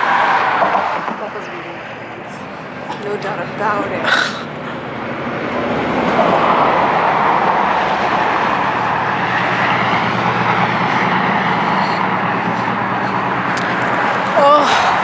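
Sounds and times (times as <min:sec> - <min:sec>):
highway traffic passing: 0:00.0 - 0:15.0.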